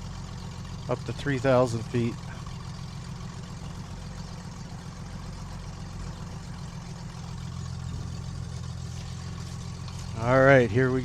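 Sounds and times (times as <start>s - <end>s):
aircraft piston engine idling: 0.0s - 10.3s.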